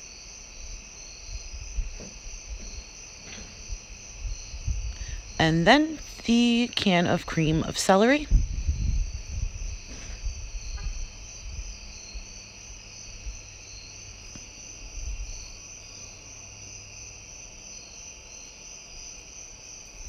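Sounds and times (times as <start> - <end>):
steady high-pitched hum: 0.0 - 18.5.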